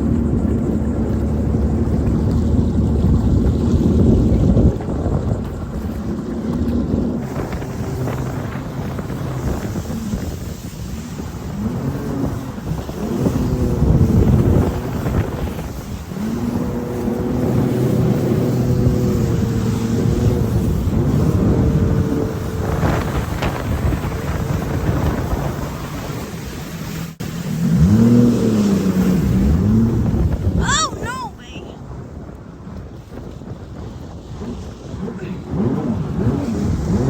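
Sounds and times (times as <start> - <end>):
jet ski engine running: 0.0 - 37.0
wind buffeting microphone: 0.0 - 37.0.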